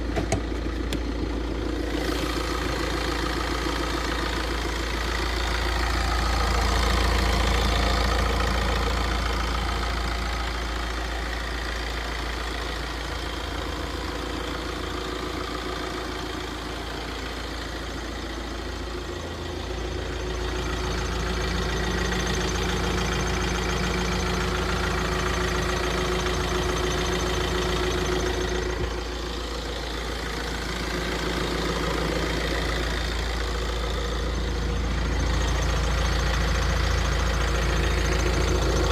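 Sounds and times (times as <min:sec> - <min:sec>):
diesel engine idling with knock: 0:00.0 - 0:38.9.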